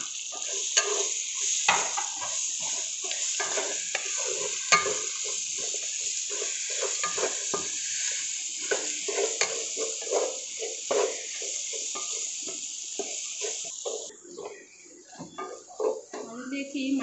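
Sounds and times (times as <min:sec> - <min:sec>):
spatula scraping pan: 0:00.0 - 0:14.1, 0:15.4 - 0:16.4
onions sizzling in hot oil: 0:00.0 - 0:14.5
spatula clacking on pan: 0:00.1 - 0:14.1.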